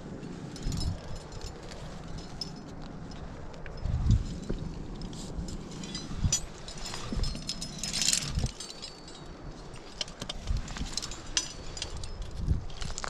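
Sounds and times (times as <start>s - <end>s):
climbing gear clinking: 0.0s - 13.0s.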